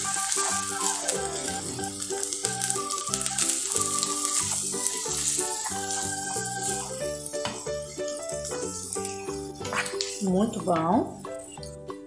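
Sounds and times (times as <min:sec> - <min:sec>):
background music: 0:00.0 - 0:12.0
potatoes sizzling in a frying pan: 0:00.0 - 0:12.0.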